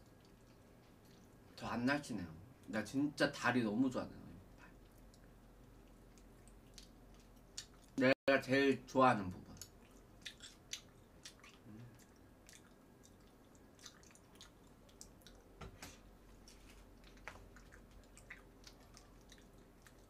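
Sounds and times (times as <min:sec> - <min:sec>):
faint chewing with mouth clicks: 0:00.0 - 0:01.6, 0:04.2 - 0:08.2, 0:09.4 - 0:20.0.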